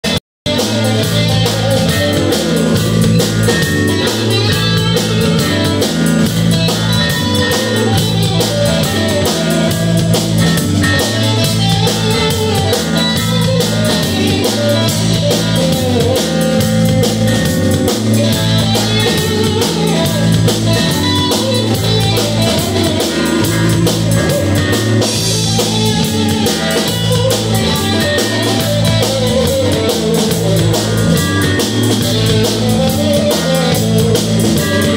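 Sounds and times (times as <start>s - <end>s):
drum kit groove: 0.0s - 34.9s
electric bass line: 0.0s - 34.9s
electric guitar: 0.0s - 34.9s
electric keyboard: 0.0s - 34.9s.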